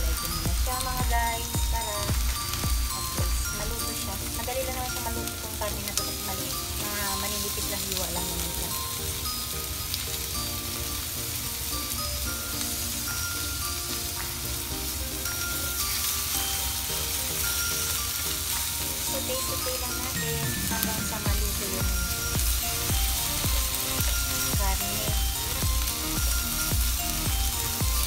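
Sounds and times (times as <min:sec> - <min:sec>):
pork and onion sizzling: 0:00.0 - 0:28.0.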